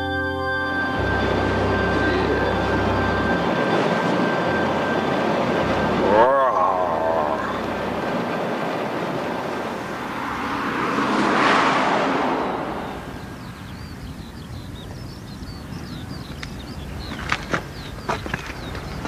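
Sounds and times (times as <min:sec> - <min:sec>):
road vehicle passing: 0:00.7 - 0:19.0.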